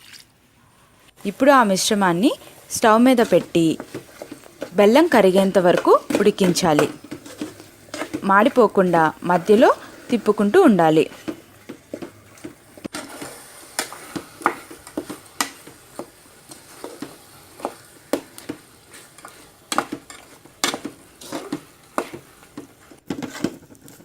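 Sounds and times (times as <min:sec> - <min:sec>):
faint sizzle: 0:00.0 - 0:24.0
utensil scraping a pan: 0:01.3 - 0:24.0.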